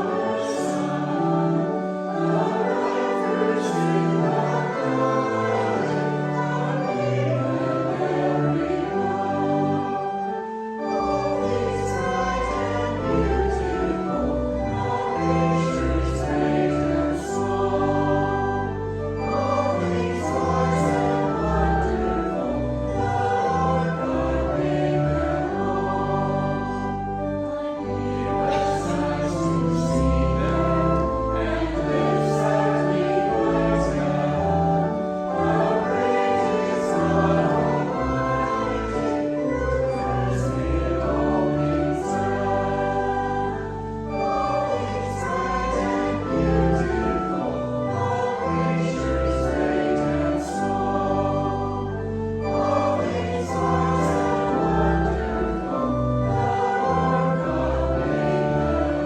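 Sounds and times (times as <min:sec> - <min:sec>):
congregation singing a hymn: 0:00.0 - 0:59.0
instrumental accompaniment: 0:00.0 - 0:59.0.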